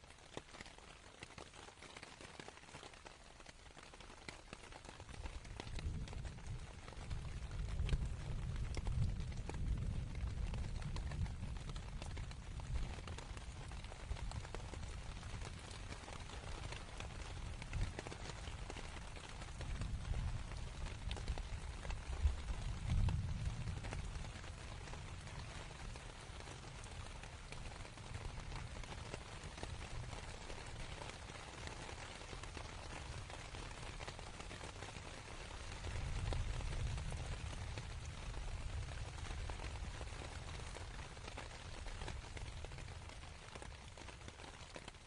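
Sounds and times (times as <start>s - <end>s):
rain pattering on a tent: 0.0s - 45.0s.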